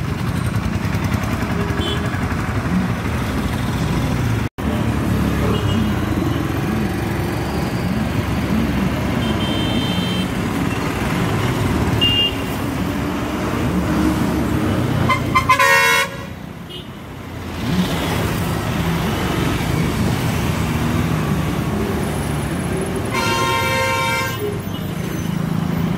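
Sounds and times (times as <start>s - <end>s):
cars passing: 0.0s - 25.9s
diesel truck engines passing: 0.0s - 25.9s
motorcycles passing: 0.0s - 25.9s.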